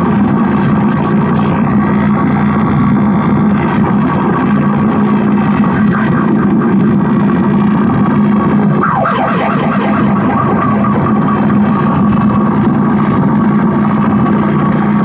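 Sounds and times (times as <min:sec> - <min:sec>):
distorted synth drone: 0:00.0 - 0:15.0
steady low hum: 0:00.0 - 0:15.0.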